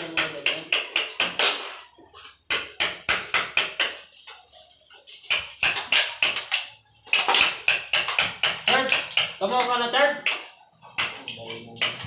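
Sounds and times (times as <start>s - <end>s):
rapid hammer strikes: 0.0s - 1.7s, 2.5s - 4.0s, 5.3s - 12.0s.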